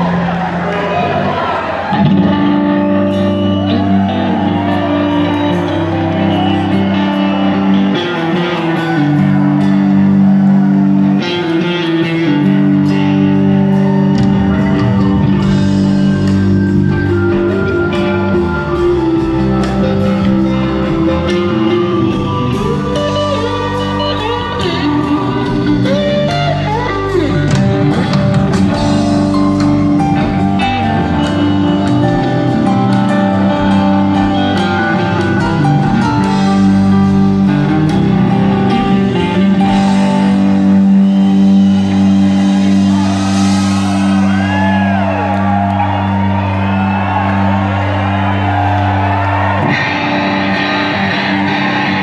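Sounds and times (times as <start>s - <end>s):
bass guitar: 0.0s - 52.0s
bending lead guitar lines: 0.0s - 52.0s
electric guitar chords: 0.0s - 52.0s
rock band playing live: 0.0s - 52.0s.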